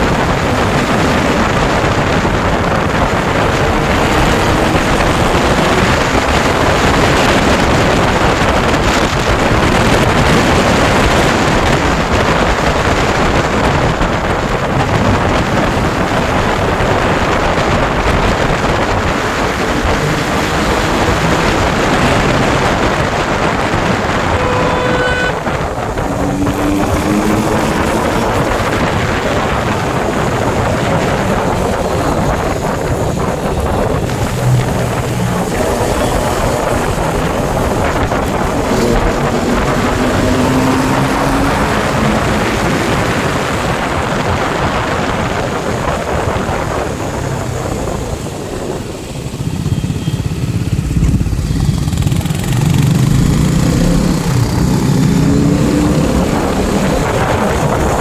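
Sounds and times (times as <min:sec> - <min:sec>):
motorcycle engines running: 0:00.0 - 0:58.0
wind noise on microphone: 0:00.0 - 0:58.0.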